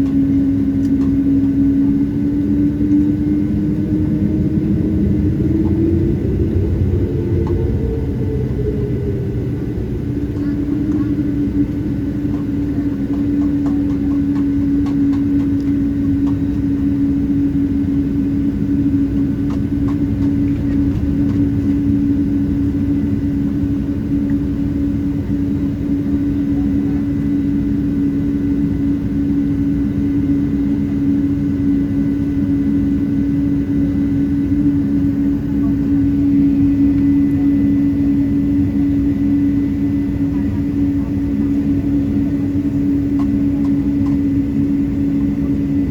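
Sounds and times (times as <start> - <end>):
aircraft cabin low hum: 0.0 - 45.9
high whine: 0.0 - 45.9.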